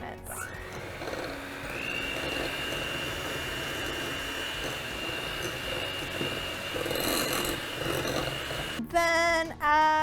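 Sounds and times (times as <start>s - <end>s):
electric mixer motor whine: 0.3s - 8.8s.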